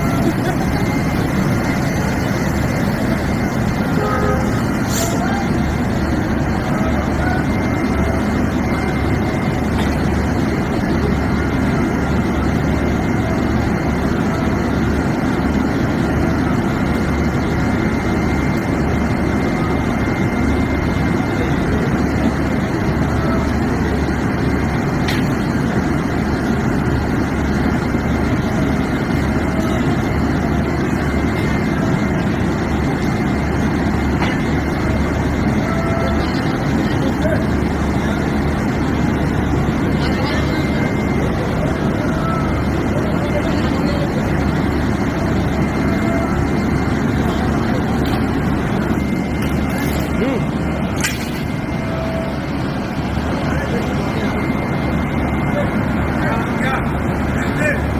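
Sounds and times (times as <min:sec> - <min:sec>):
faint steady whine: 0:00.0 - 0:57.9
locomotive engine idling: 0:00.0 - 0:57.9.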